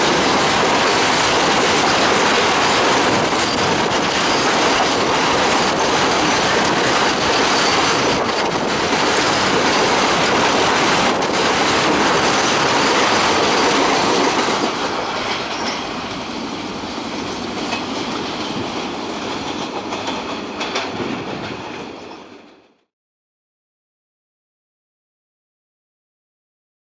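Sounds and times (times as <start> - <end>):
steel wheels clattering on rail joints: 0.0 - 22.8.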